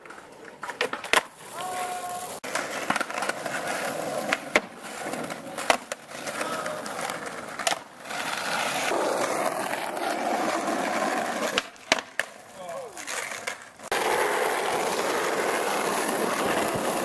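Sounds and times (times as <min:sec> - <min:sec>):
skateboard clacks: 0:00.0 - 0:17.0
skateboard wheels rolling on pavement: 0:00.0 - 0:17.0.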